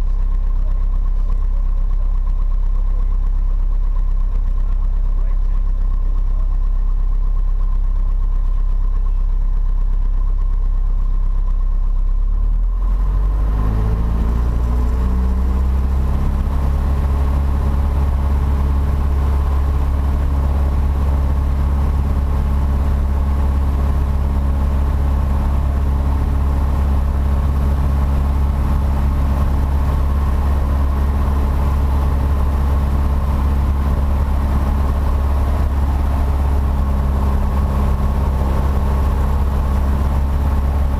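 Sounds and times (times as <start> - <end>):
light aircraft engine running: 0.0 - 40.9.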